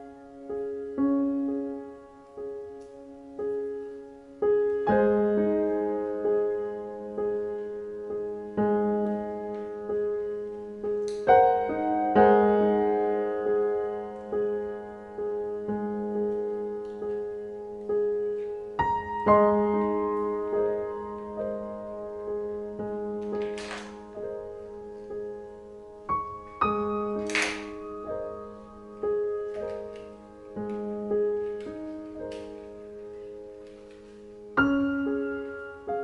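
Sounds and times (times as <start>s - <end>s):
slow soft piano music: 0.0s - 36.0s.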